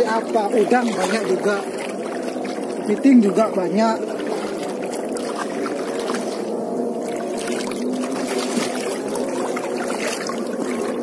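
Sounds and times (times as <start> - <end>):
seawater sloshing from wading: 0.0 - 11.0.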